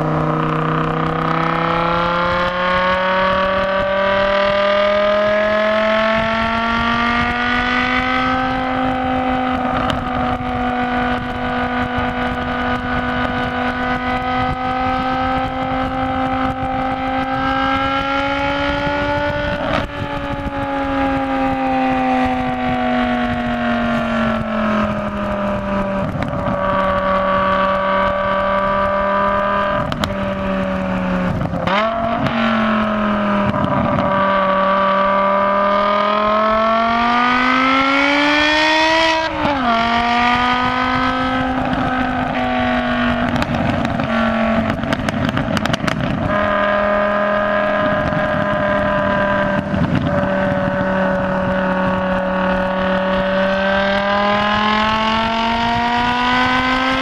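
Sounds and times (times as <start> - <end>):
car engine running hard: 0.0 - 57.0
wind buffeting microphone: 0.0 - 57.0.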